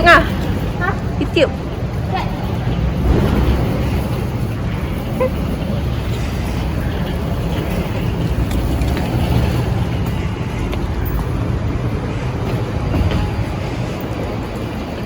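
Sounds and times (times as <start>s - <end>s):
low rumble of vehicles: 0.0s - 15.0s.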